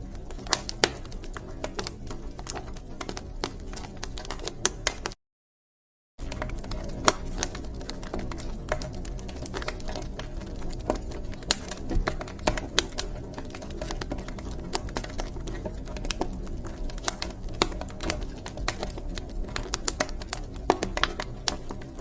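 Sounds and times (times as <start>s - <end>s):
wood fire crackling: 0.0s - 5.2s, 6.2s - 22.0s.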